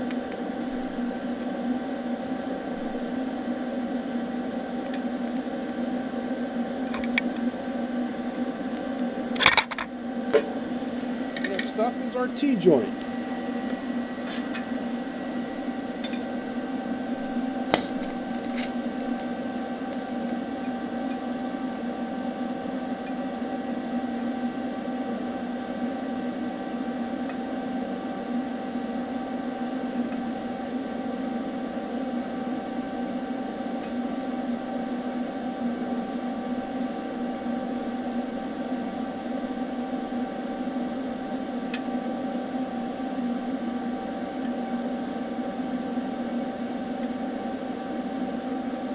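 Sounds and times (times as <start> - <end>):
welding arc hum and hiss: 0.0 - 48.9.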